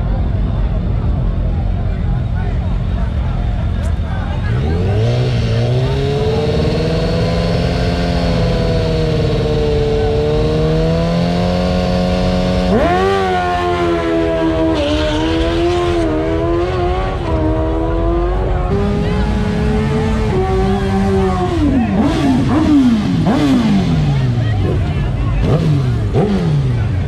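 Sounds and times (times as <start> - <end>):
motorcycle engine revving and accelerating: 3.8 - 27.0.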